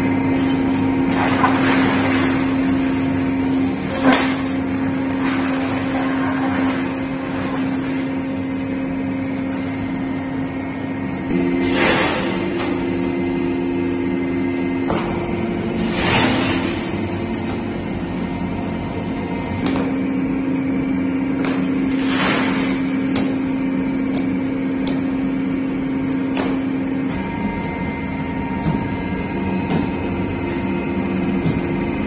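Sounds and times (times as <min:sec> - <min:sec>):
motor hum: 0:00.0 - 0:32.0
rushing noise of crushing machine: 0:00.1 - 0:32.0.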